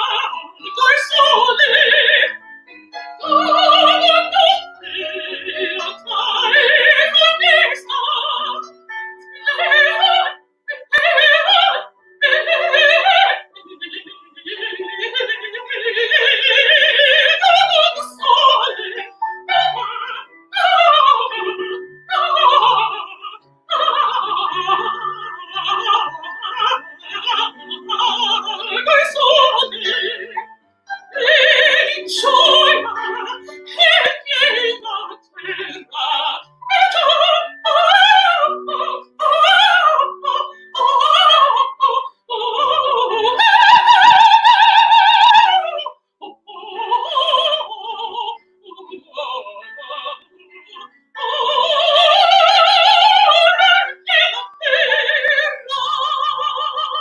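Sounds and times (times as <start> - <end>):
piano accompaniment: 0.0 - 57.0
woman singing operatically: 0.0 - 57.0.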